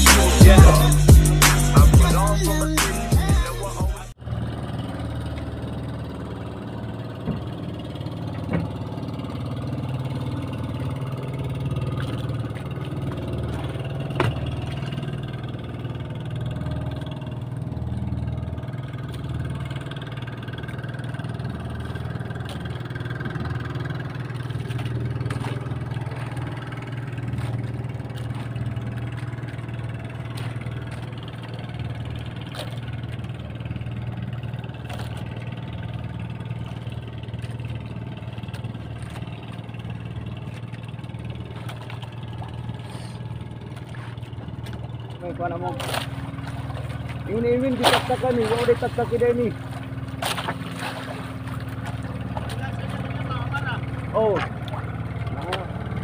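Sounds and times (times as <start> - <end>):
boat engine humming: 0.0 - 56.0.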